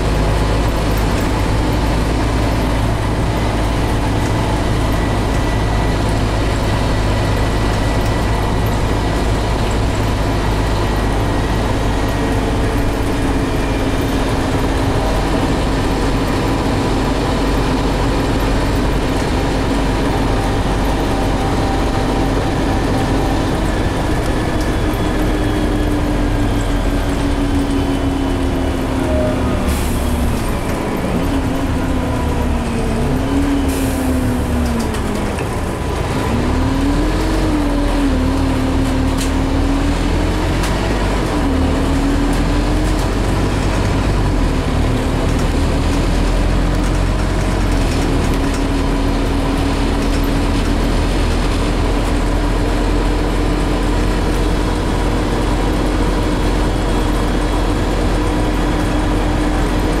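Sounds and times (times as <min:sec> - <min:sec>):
bus engine rumble: 0:00.0 - 1:00.0
drivetrain whine: 0:00.0 - 1:00.0.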